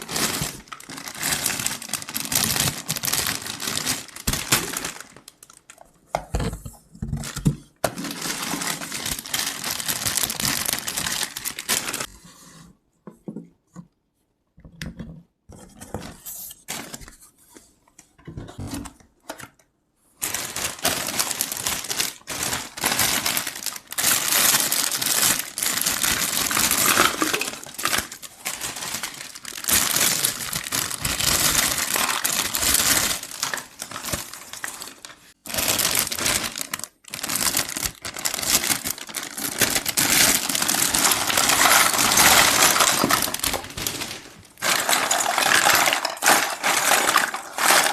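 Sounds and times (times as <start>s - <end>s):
plastic packaging crinkling: 0.0s - 5.9s, 7.2s - 12.1s, 20.2s - 47.9s.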